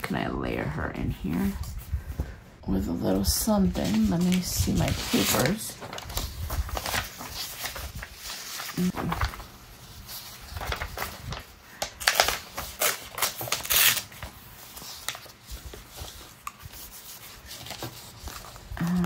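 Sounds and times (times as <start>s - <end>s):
paper rustling: 3.0s - 19.0s.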